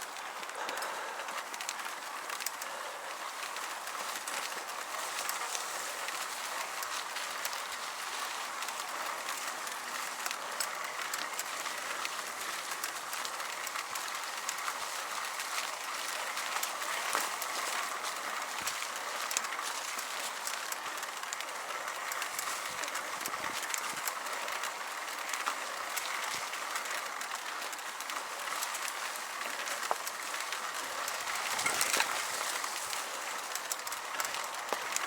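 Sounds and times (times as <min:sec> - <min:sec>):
bicycle tyres on dirt trail: 0:00.0 - 0:35.0
small clicks and rattles: 0:00.0 - 0:35.0.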